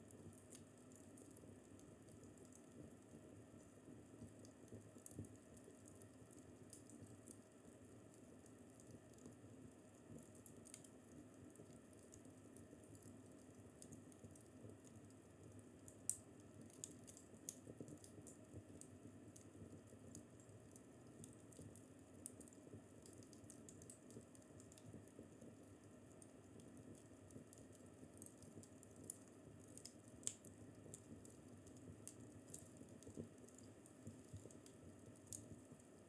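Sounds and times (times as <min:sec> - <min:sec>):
low steady hiss: 0:00.0 - 0:36.0
wood fire crackling: 0:00.0 - 0:36.0.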